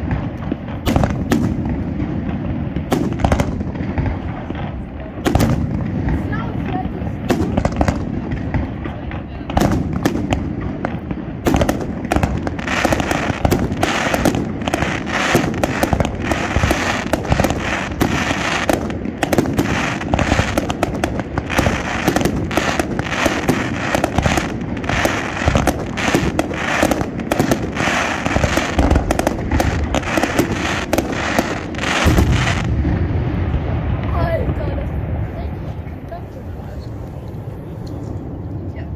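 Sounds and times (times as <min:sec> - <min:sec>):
fireworks bangs and crackle: 0:00.0 - 0:38.9.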